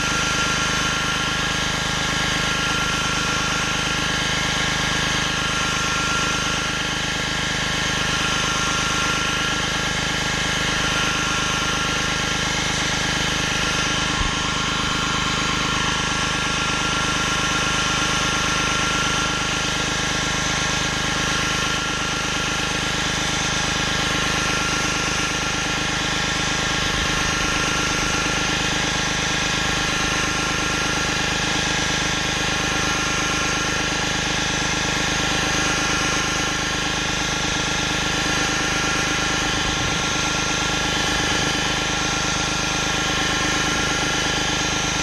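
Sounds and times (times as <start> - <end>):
pressure washer running: 0.0 - 45.0.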